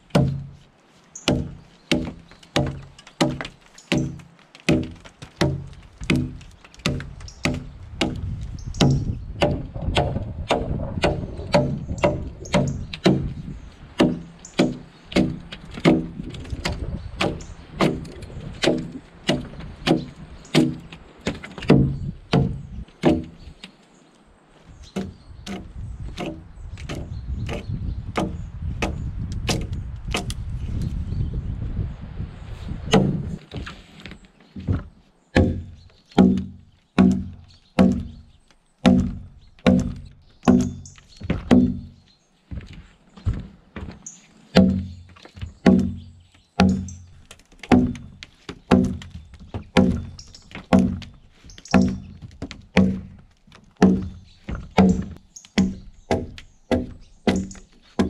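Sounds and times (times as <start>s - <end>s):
axe chopping log: 0.1s - 0.6s, 1.2s - 23.5s, 25.0s - 30.4s, 32.9s - 33.5s, 34.7s - 42.0s, 44.5s - 53.2s, 53.8s - 58.0s.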